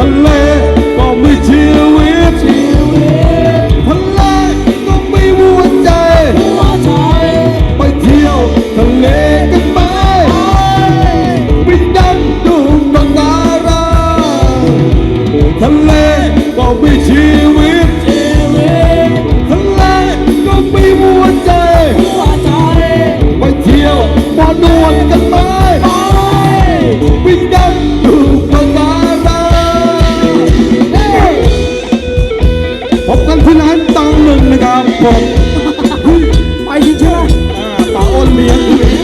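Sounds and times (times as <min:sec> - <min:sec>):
dance band music: 0:00.0 - 0:39.0.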